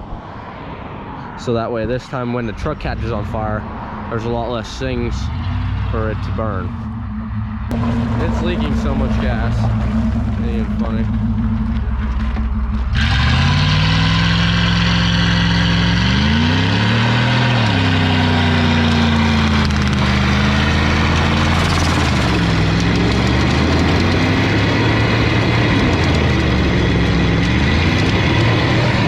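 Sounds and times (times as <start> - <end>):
spinning tyres rushing: 0.0 - 29.0
truck engine revving: 2.5 - 29.0.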